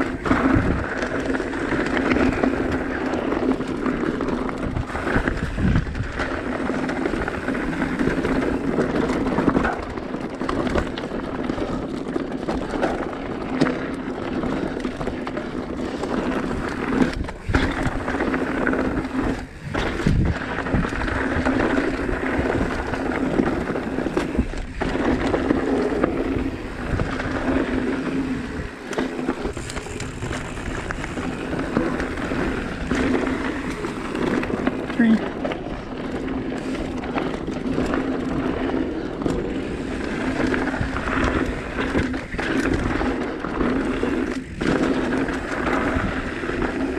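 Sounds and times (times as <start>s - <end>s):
mountain bike rattling on rocks: 0.0s - 46.9s.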